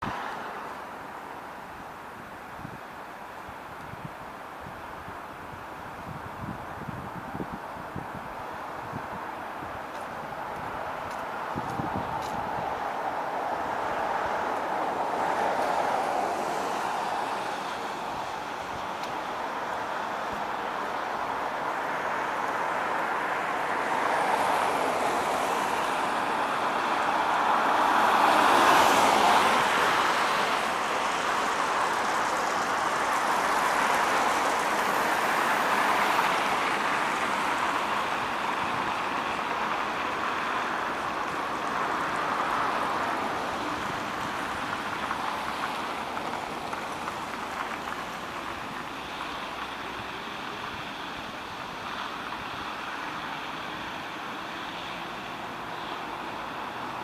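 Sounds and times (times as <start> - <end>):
tram wheels on rails: 9.0 - 57.0.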